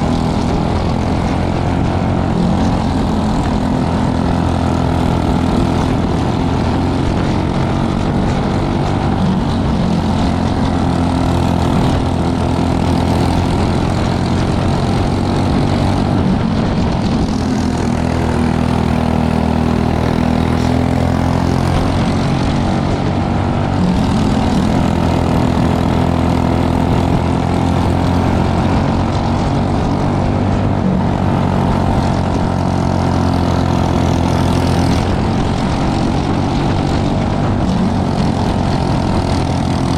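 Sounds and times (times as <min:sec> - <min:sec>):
kart engine droning: 0:00.0 - 0:39.9.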